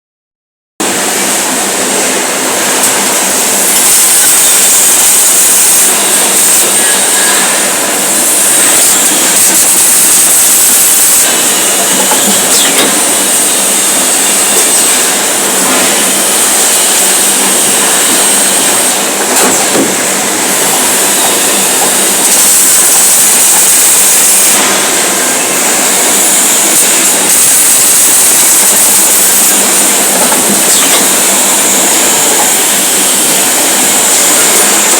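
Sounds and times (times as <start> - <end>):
welding hiss and crackle: 0.9 - 34.9.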